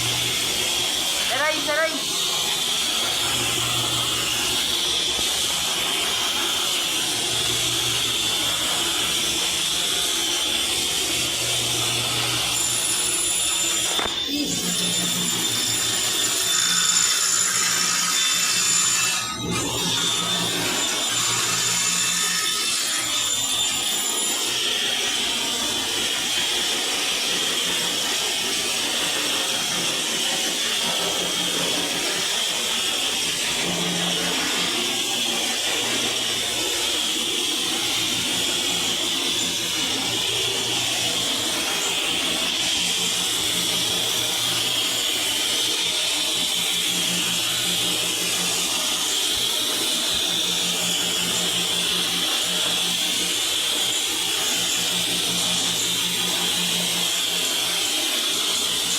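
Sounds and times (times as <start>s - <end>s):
electric saw cutting board: 0.0s - 58.9s.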